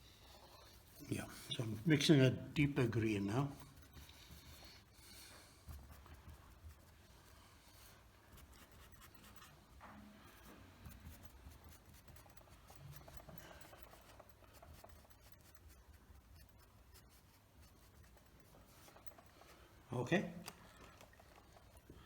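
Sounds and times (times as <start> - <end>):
paintbrush scratching and rubbing: 0.0 - 20.1, 21.0 - 22.0.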